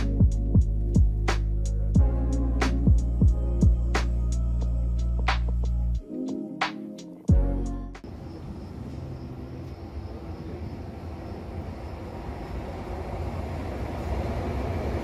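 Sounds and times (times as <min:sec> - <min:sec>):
electric locomotive rumble: 0:00.0 - 0:06.0, 0:08.0 - 0:15.0.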